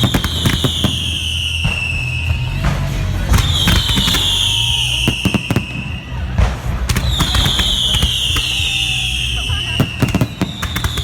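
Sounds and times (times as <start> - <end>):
falling firework whistle: 0.0 - 11.0
fireworks bangs and crackles: 0.0 - 11.0.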